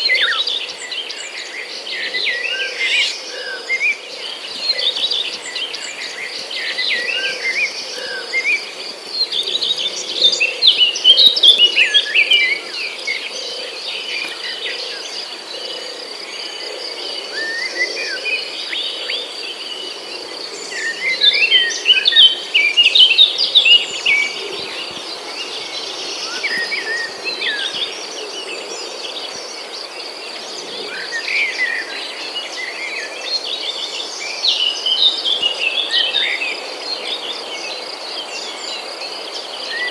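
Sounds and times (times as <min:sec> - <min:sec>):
birds chirping and trilling: 0:00.0 - 0:39.9
high insect drone: 0:00.0 - 0:39.9.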